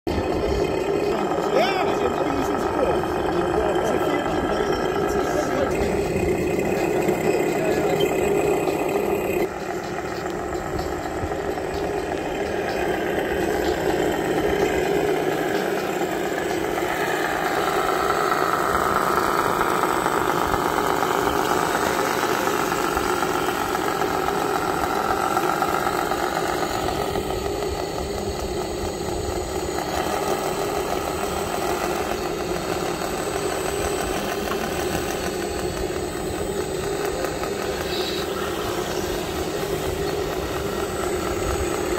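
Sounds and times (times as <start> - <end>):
high motor whine: 0.0 - 41.9
model vehicle motor drone: 0.1 - 41.9.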